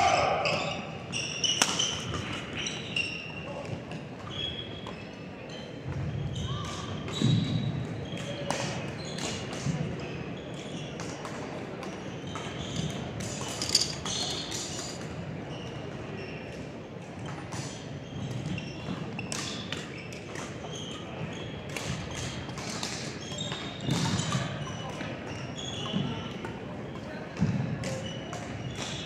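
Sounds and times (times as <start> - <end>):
sneakers squeaking on floor: 0.2 - 16.6, 17.2 - 29.0.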